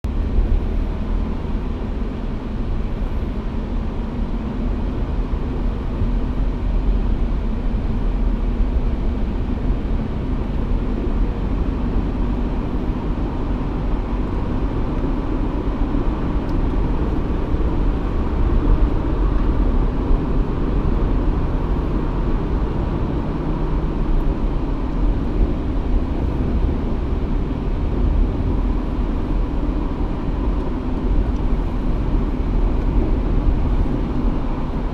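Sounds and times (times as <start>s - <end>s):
off-road vehicle engine rumbling: 0.0s - 34.9s.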